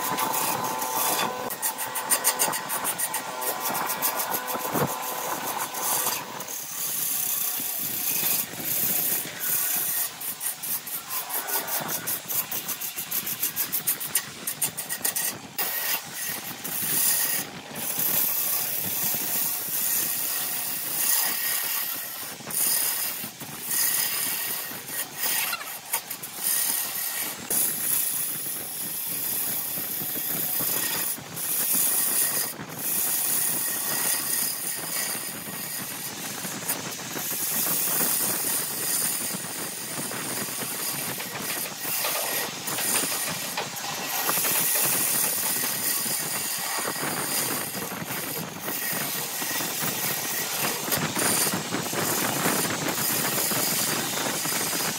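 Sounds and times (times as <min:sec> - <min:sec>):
turning tool scraping wood: 0:00.0 - 0:54.9
wood lathe turning: 0:00.0 - 0:54.9.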